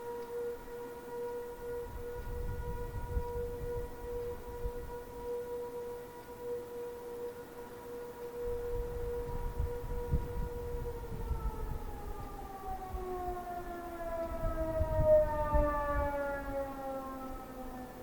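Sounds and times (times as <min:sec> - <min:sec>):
warning sirens winding down: 0:00.0 - 0:18.0.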